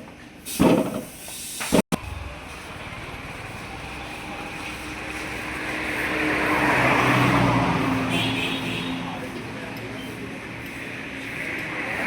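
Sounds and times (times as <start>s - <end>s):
road noise hiss: 0.1s - 12.0s
vehicle engine approaching: 2.0s - 12.0s.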